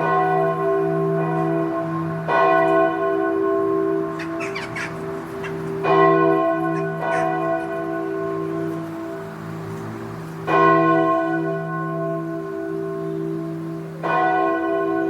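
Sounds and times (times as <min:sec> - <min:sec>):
large bell ringing: 0:00.0 - 0:15.0.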